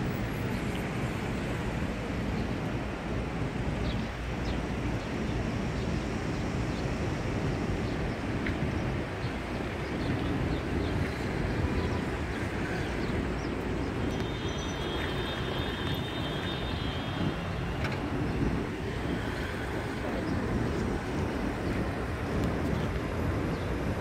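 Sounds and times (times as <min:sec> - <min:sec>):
city street traffic: 0:00.0 - 0:24.0
wind buffeting microphone: 0:00.0 - 0:24.0.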